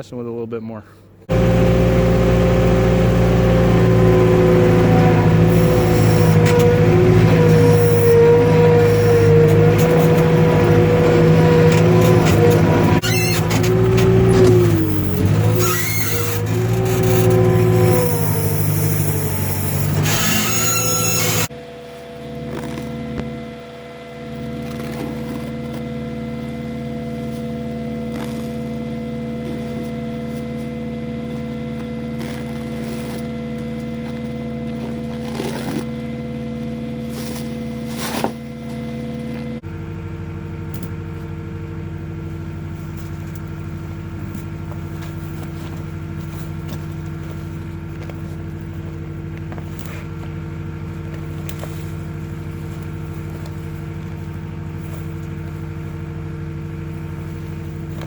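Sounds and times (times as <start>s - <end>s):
skid steer engine running: 1.2s - 58.0s.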